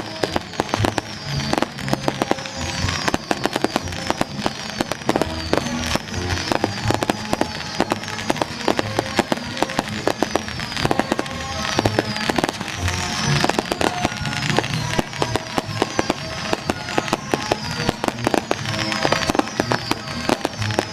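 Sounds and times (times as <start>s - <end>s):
firecrackers crackling: 0.0s - 20.9s
music playing: 0.0s - 20.9s.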